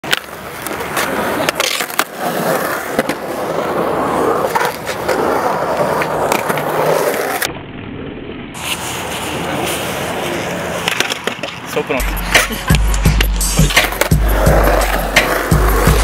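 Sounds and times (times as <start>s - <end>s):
skateboard wheels rolling on concrete: 0.0s - 16.0s.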